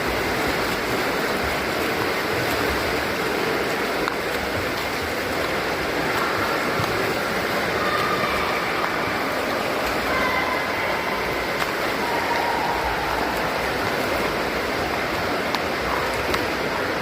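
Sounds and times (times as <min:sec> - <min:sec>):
water splashing in a pool: 0:00.0 - 0:17.0.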